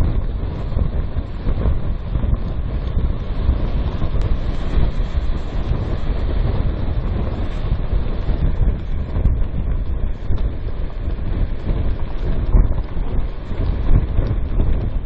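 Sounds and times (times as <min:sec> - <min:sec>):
storm wind on microphone: 0:00.0 - 0:15.0
sea waves breaking: 0:00.2 - 0:14.9.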